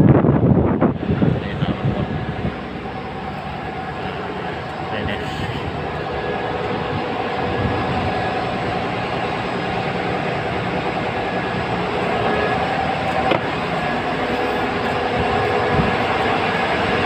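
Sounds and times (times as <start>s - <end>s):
ship machinery drone: 0.0s - 17.0s
faint steady tones: 0.7s - 17.0s.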